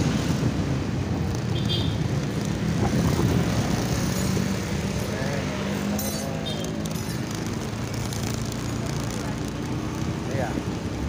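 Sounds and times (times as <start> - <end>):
passing motorcycle: 0.0 - 11.0
wind and road noise: 0.0 - 11.0.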